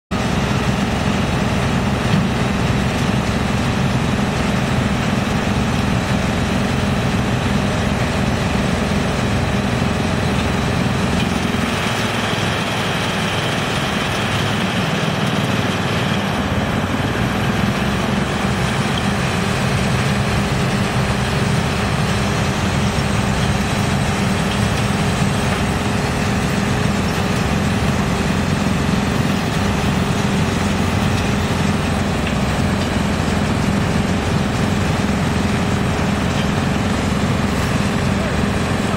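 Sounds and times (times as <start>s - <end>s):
wood chipper chipping wood: 0.2s - 38.9s.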